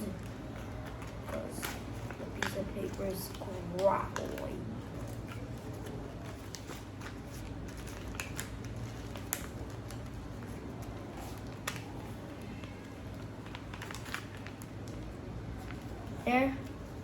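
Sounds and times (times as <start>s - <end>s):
paper crackling as it is creased: 0.0s - 17.0s.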